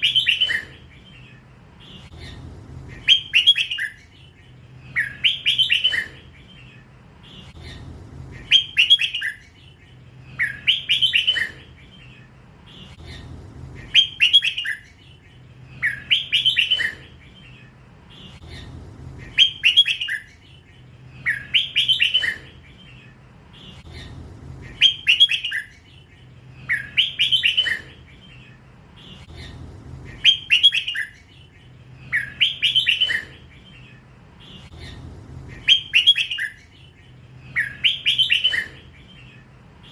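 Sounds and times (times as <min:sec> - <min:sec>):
bird singing bright chirps: 0:00.0 - 0:39.9.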